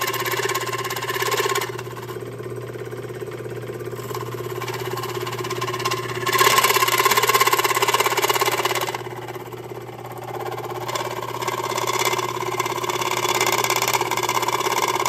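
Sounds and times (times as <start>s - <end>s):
scroll saw cutting metal: 0.0s - 2.3s, 3.9s - 9.4s, 10.0s - 15.0s.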